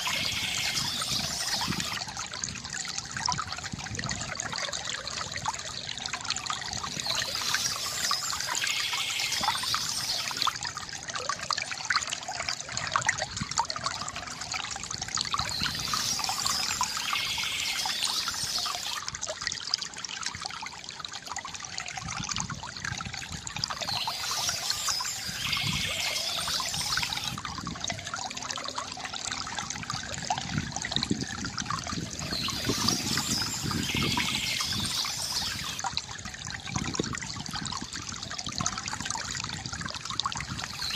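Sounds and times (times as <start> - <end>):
fountain water trickling and gurgling: 0.0 - 40.9.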